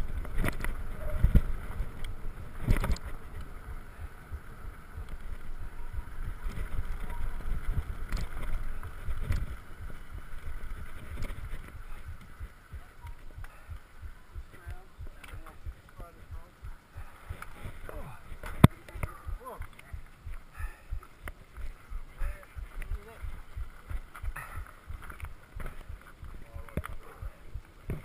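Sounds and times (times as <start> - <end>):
bike knocking and rattling: 0.0 - 28.0
bike tyre rumble: 0.0 - 28.0
wind on microphone: 0.0 - 28.0.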